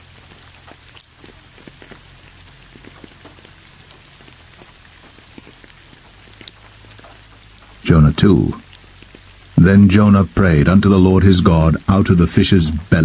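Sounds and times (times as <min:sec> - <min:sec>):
soft steady rain: 0:00.0 - 0:13.0.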